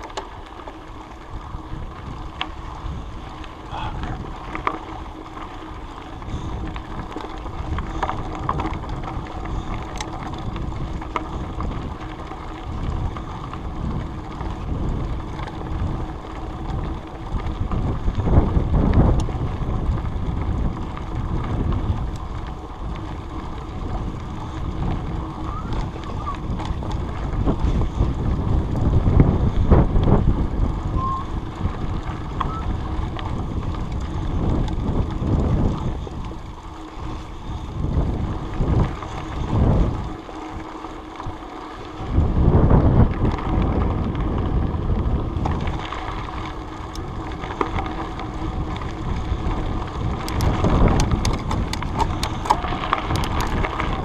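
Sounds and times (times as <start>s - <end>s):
bike clicks and rattles: 0.0s - 54.0s
wind buffeting microphone: 0.0s - 54.0s.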